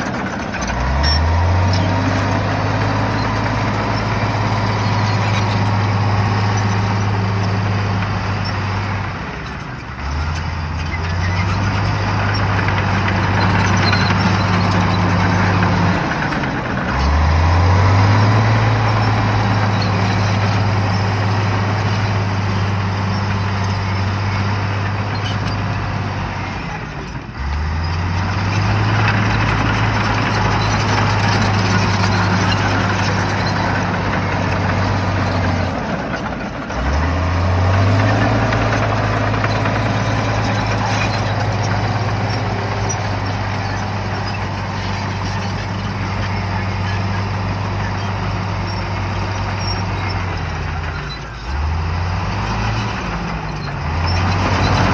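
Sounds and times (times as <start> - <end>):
bulldozer diesel engine revving: 0.0 - 54.9.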